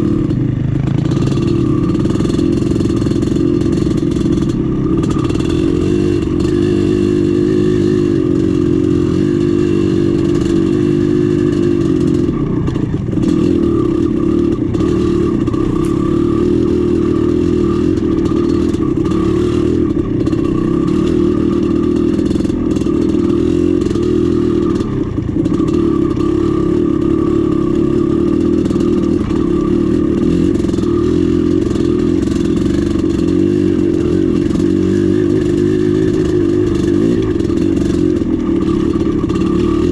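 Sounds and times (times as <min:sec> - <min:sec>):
dirt bike engine under throttle: 0:00.0 - 0:39.9.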